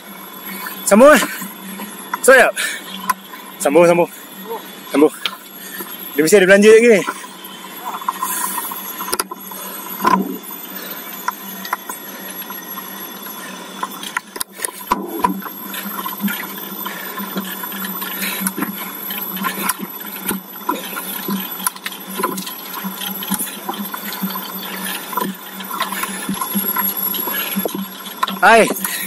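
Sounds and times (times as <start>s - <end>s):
steady low hum: 0.0s - 29.0s
bicycle clicks and rattles: 4.1s - 29.0s.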